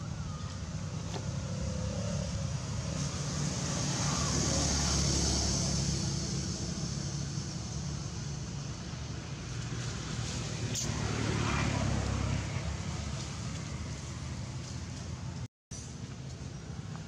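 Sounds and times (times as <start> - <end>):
vehicle passing by: 0.1 - 15.4.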